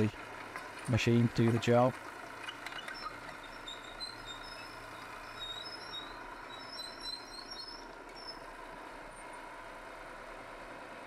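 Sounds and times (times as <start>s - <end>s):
distant dragline running: 0.0s - 11.0s.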